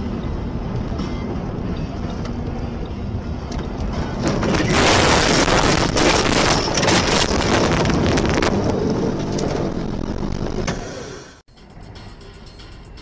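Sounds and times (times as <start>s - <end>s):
car rumbling: 0.0s - 13.0s.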